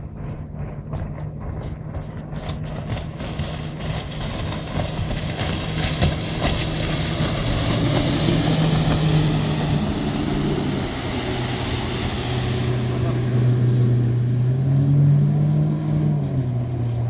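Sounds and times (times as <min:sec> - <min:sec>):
outboard motor running: 0:00.0 - 0:17.0
water rushing against hull: 0:00.0 - 0:17.0.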